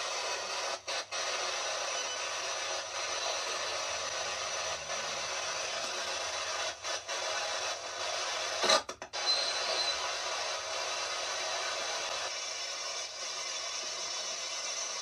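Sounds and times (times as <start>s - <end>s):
radio static hiss: 0.0s - 12.3s.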